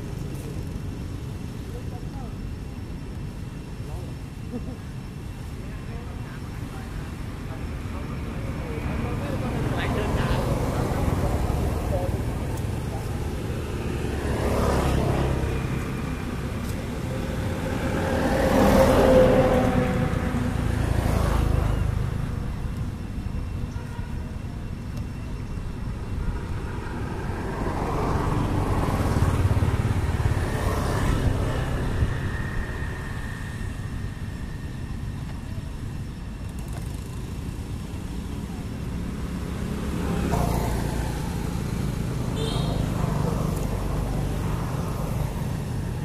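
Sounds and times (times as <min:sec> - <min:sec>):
road traffic passing: 0:00.0 - 0:46.0.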